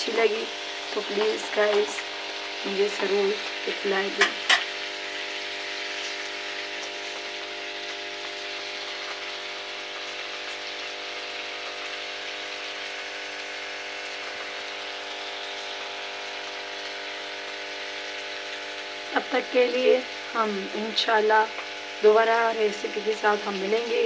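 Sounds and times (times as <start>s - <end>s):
potatoes sizzling in oil: 0.0s - 24.0s.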